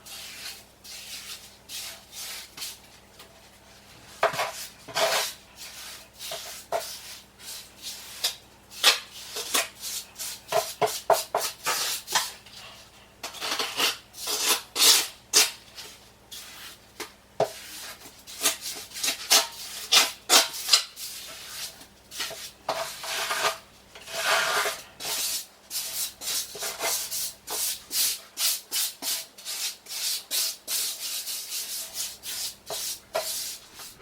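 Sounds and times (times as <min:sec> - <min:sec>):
trowel scraping mortar: 0:00.0 - 0:02.8, 0:04.1 - 0:16.8, 0:17.4 - 0:34.0.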